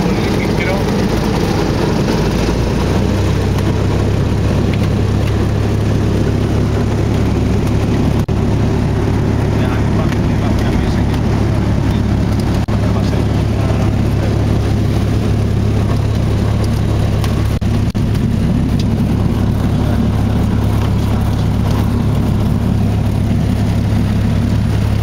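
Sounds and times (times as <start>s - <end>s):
piston engine and propeller droning: 0.0s - 25.0s.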